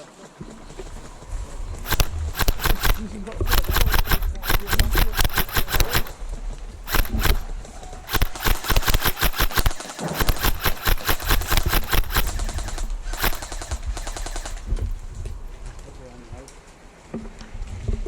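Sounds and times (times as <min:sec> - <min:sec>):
airsoft guns firing bursts: 0:00.6 - 0:15.7.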